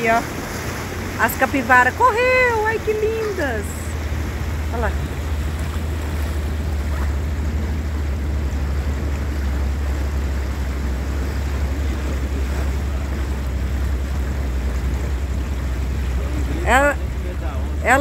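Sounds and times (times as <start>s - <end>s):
boat motor running: 0.0s - 18.0s
water rushing: 0.0s - 18.0s.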